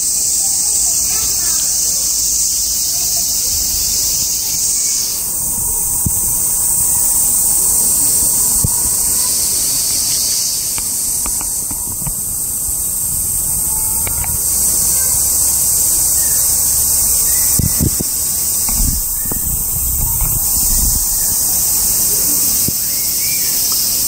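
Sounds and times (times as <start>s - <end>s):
cicadas shrilling: 0.0s - 24.0s.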